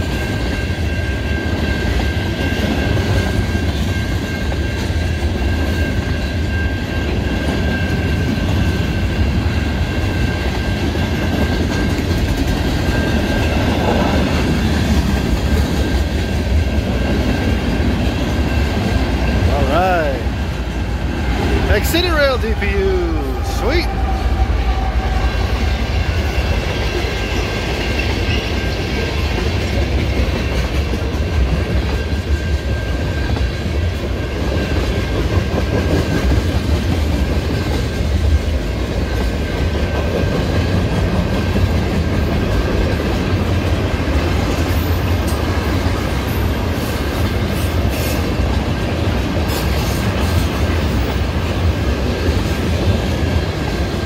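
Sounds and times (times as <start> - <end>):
clickety-clack over rail joints: 0.0 - 22.4, 25.0 - 54.0
freight train wheels rumbling: 0.0 - 54.0.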